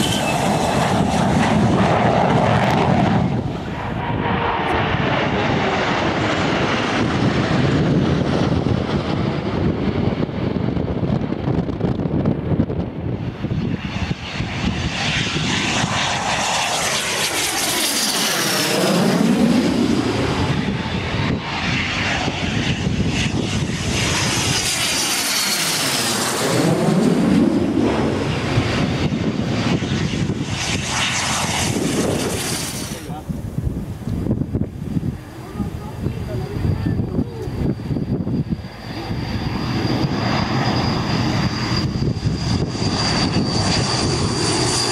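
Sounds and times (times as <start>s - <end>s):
military aircraft flying past: 0.0s - 44.9s.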